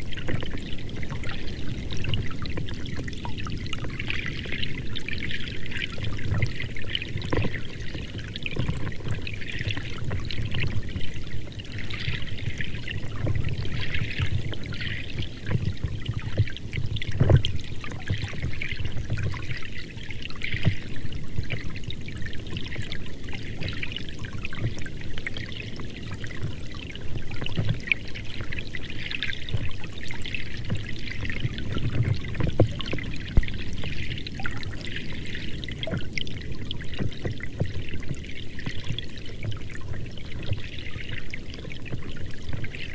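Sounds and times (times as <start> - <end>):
water pouring and splashing: 0.0 - 42.9.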